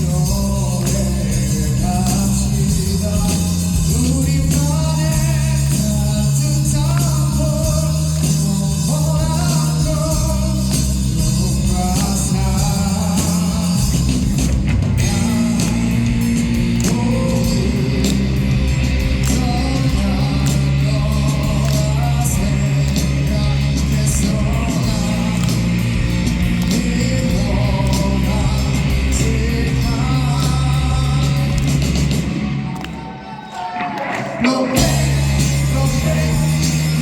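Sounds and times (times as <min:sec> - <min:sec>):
rock band with singer: 0:00.0 - 0:37.0.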